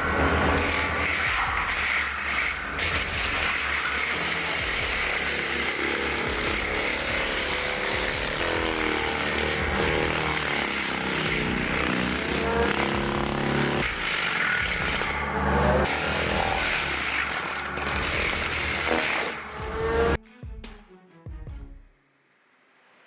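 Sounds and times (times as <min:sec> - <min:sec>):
machine motor running: 0:00.0 - 0:20.2.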